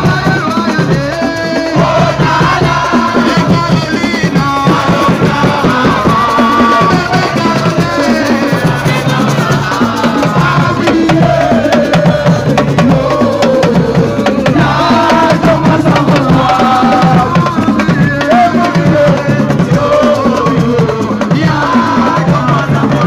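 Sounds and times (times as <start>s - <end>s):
fast dense drumming: 0.0s - 23.0s
voices singing: 0.0s - 23.0s.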